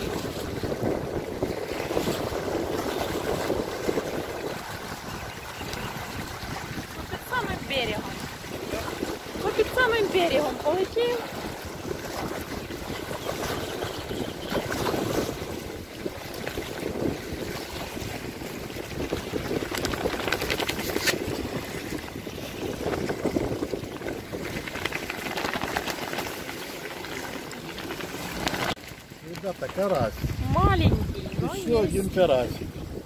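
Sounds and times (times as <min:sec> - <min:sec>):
wind buffeting microphone: 0:00.0 - 0:26.8, 0:29.7 - 0:33.0
motorboat running: 0:00.0 - 0:33.0
water washing against shore: 0:00.0 - 0:33.0.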